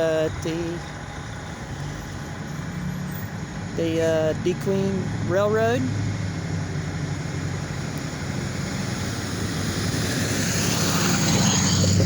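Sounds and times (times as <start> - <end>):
diesel locomotive engines droning: 0.0 - 12.0.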